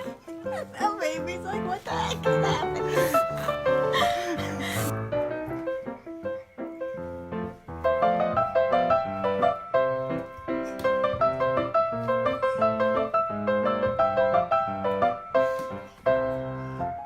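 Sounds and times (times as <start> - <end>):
lively piano music: 0.0 - 17.0.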